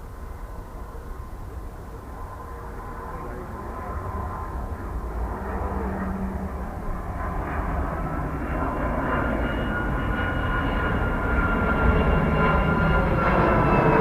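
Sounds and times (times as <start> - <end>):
high engine whine: 0.0 - 14.0
jet aircraft rumble: 0.0 - 14.0.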